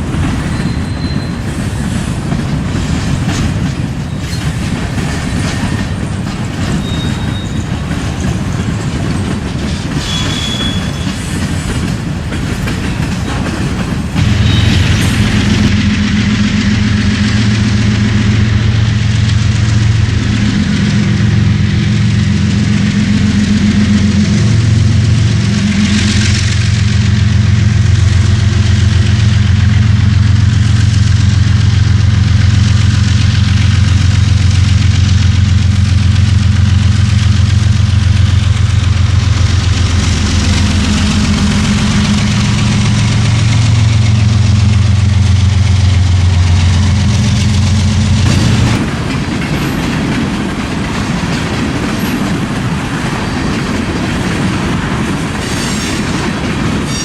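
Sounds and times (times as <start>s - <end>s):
diesel locomotive engines running: 0.0s - 57.0s
rail cars clattering past: 0.0s - 57.0s.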